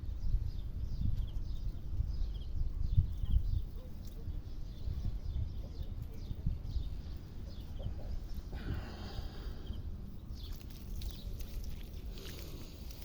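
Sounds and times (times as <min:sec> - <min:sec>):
faint birds chirping: 0:00.0 - 0:13.0
wind rumbling on microphone: 0:00.0 - 0:13.0.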